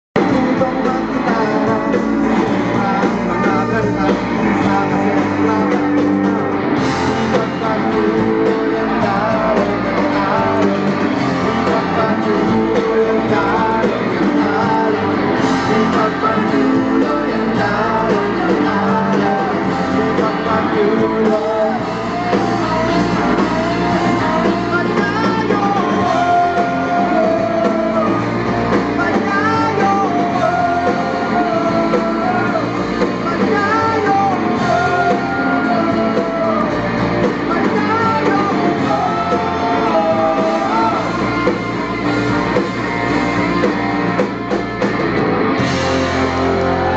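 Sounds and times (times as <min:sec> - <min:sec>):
live rock band playing: 0:00.2 - 0:46.9.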